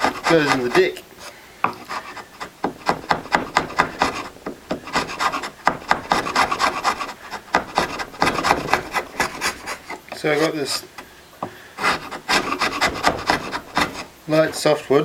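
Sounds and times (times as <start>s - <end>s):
abrasive tool scraping wood: 0.0s - 14.9s.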